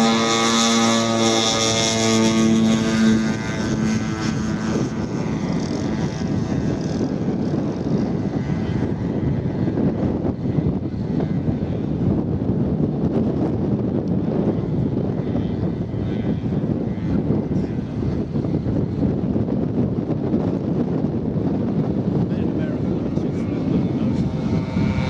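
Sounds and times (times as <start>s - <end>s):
model aircraft engines: 0.0s - 25.0s.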